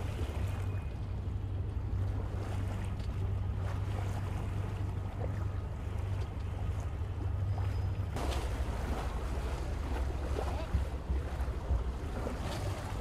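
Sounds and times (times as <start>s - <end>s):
boat engine droning: 0.0s - 13.0s
wind and water hiss: 0.0s - 13.0s.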